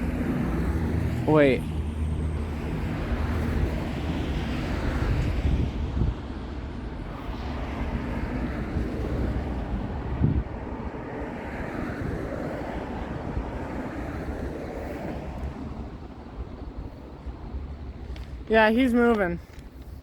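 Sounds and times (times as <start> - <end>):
low rumble of vehicles: 0.0 - 20.0
wind buffeting microphone: 0.0 - 20.0.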